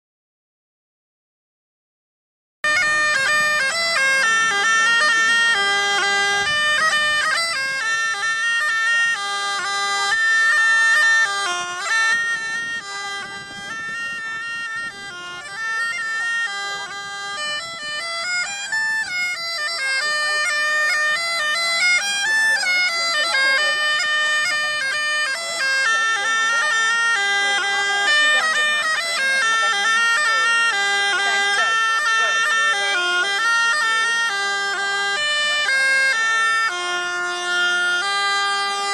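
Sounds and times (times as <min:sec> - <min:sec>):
bagpipes playing a tune: 0:02.6 - 0:38.9.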